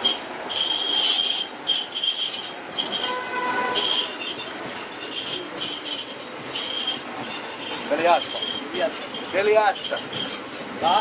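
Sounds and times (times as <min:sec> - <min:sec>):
train running rumble: 0:00.0 - 0:11.0
wheels squealing on rails: 0:00.0 - 0:11.0.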